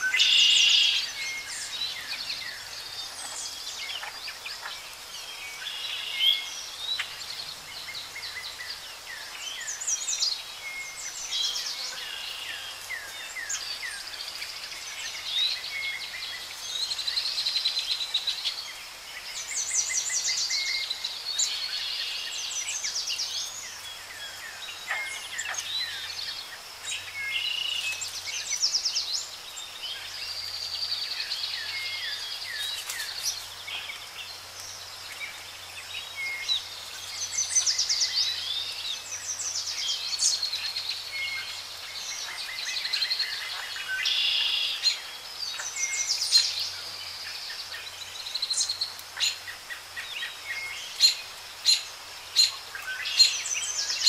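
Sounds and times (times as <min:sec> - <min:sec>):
songbirds chirping and trilling: 0:00.0 - 0:54.0
steady outdoor hiss: 0:00.0 - 0:54.0.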